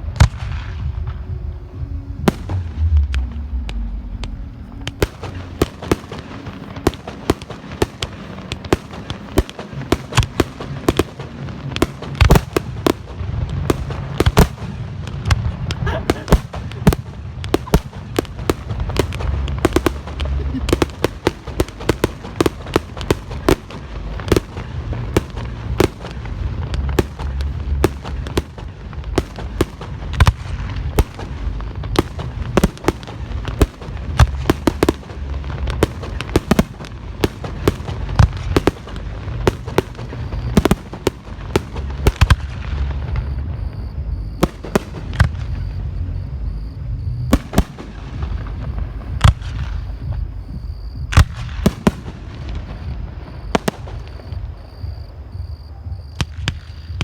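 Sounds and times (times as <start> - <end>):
low rumble: 0.0 - 56.4
fireworks bangs and crackling: 0.0 - 57.0.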